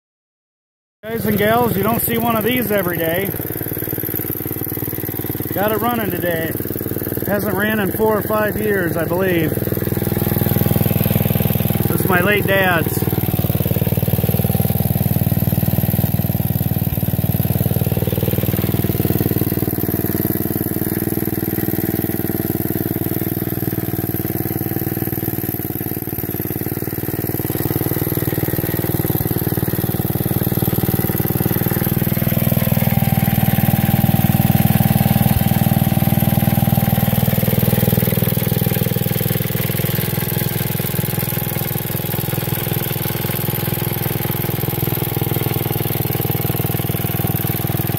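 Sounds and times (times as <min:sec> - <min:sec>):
tractor engine idling: 0:01.1 - 0:47.9.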